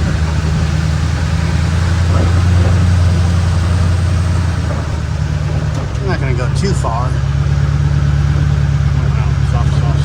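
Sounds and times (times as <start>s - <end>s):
road noise: 0.0s - 10.0s
truck engine driving: 0.0s - 10.0s.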